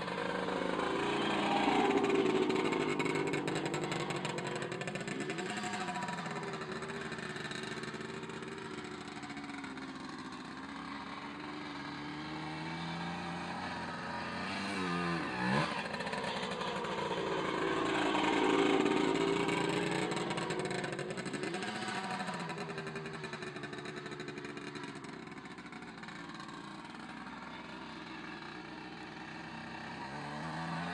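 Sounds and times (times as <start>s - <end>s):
two-stroke motorcycle engine revving: 0.0s - 30.9s.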